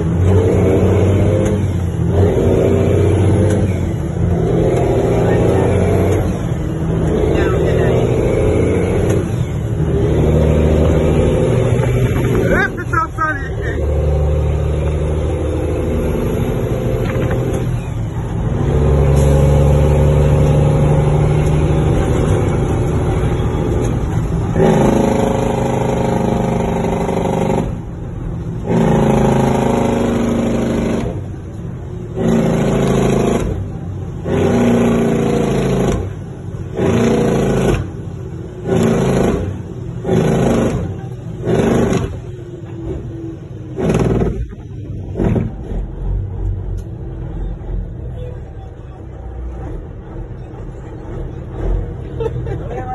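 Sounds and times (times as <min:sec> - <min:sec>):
diesel truck engine revving: 0:00.0 - 0:52.9.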